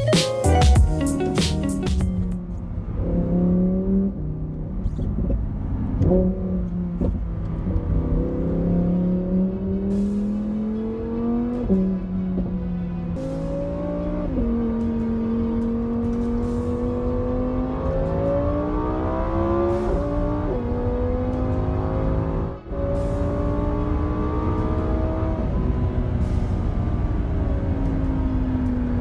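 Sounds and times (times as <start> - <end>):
car engine accelerating hard: 2.3 - 29.0.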